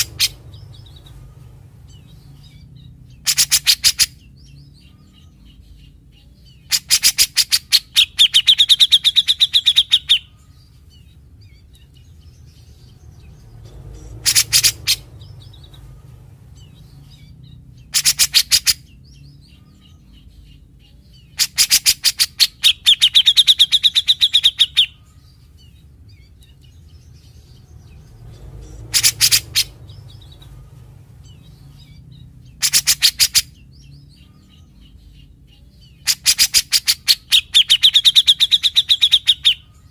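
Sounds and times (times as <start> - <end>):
bird singing rattling notes: 0.0 - 39.9
faint low hum: 0.0 - 39.9.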